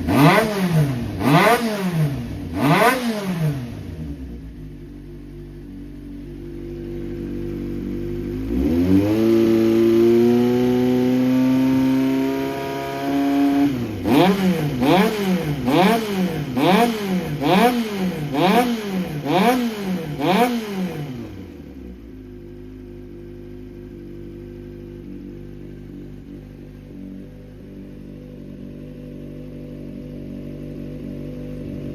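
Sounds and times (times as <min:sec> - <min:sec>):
motorcycle engine idling and revving: 0:00.0 - 0:31.9.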